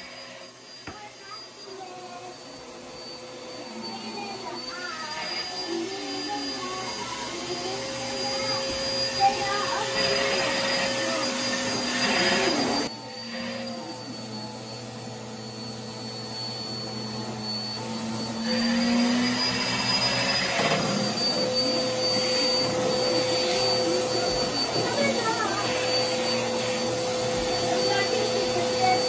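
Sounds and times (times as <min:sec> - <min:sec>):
vacuum cleaner whining: 0:00.0 - 0:29.0.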